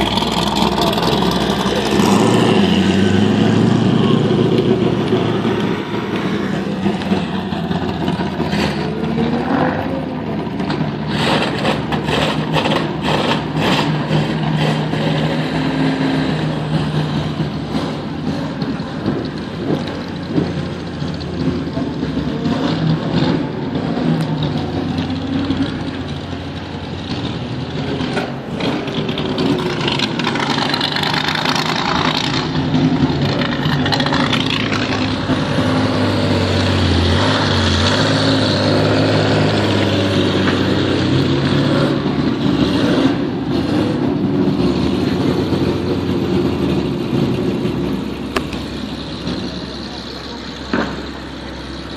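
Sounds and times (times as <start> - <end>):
car engine idling: 0.0 - 36.4, 43.1 - 51.9.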